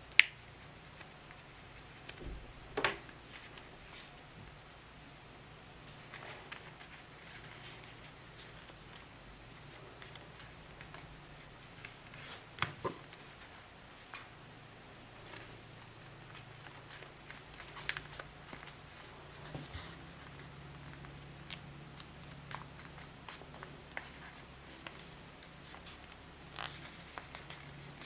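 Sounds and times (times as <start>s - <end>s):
paper folding and crackling: 0.0s - 4.2s, 5.9s - 14.3s, 15.1s - 28.0s.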